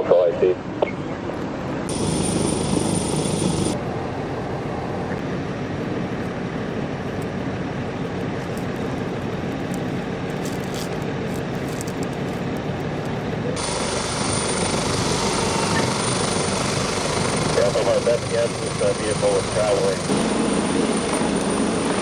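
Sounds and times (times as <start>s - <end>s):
emergency vehicle engines droning: 0.0s - 22.0s
helicopter: 0.0s - 22.0s.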